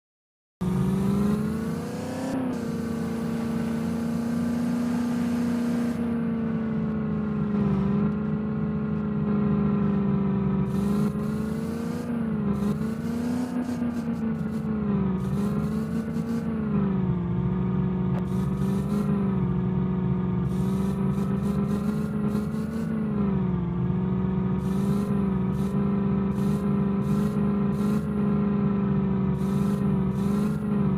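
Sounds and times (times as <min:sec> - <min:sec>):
car engine running: 0:00.6 - 0:30.9.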